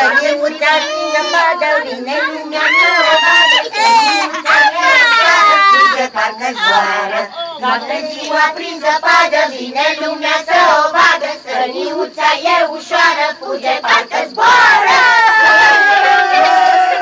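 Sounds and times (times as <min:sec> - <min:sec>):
group singing a carol: 0:00.0 - 0:17.0.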